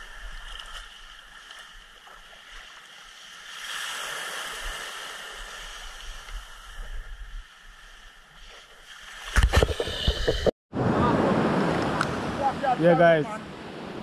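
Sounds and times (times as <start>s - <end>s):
surf washing up shore: 0.0s - 14.0s.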